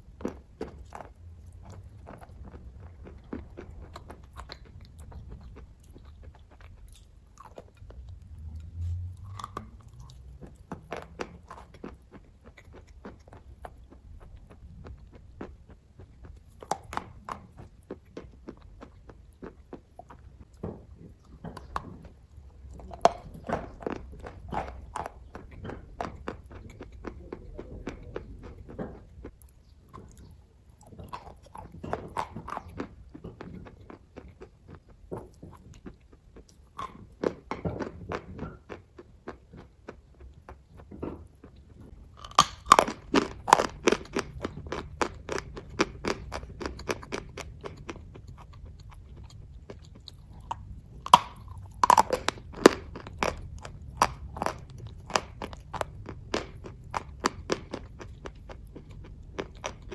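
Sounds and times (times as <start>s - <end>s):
chewing with moist mouth clicks: 0.0s - 59.9s.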